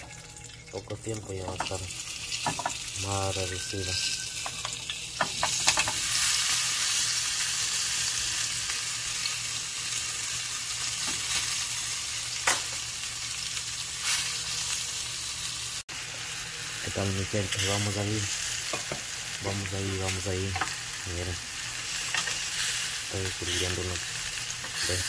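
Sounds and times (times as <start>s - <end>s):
steak sizzling in grill pan: 0.1s - 25.0s.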